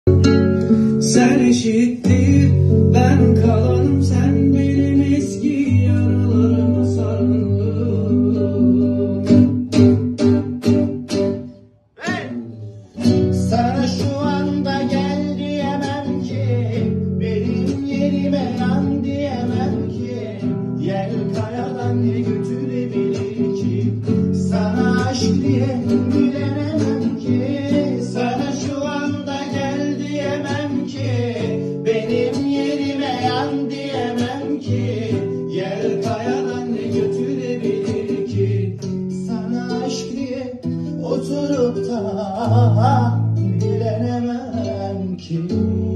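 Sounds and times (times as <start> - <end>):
plucked acoustic guitar: 0.0 - 45.9
person singing: 0.6 - 9.6, 12.0 - 45.9.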